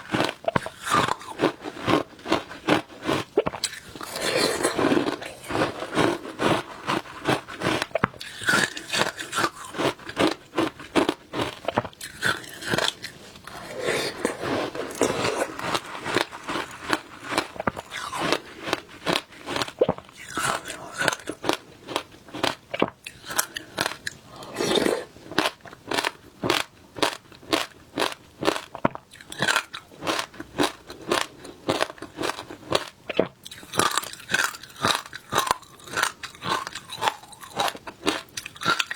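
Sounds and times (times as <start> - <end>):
crunching and chewing shaved ice: 0.0 - 38.9.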